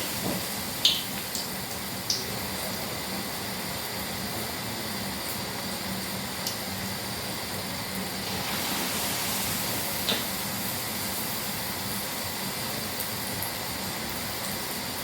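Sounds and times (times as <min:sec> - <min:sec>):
dough sizzling in hot oil: 0:00.0 - 0:15.0.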